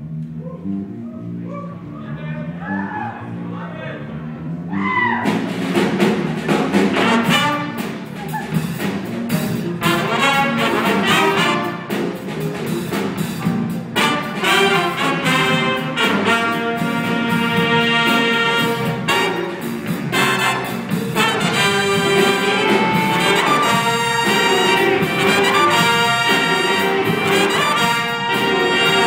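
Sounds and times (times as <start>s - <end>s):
jazz big band playing: 3.3s - 29.0s.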